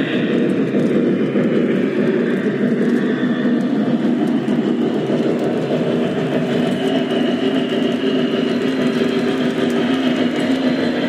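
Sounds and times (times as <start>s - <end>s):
model train wheels rumbling on rails: 0.0s - 11.0s.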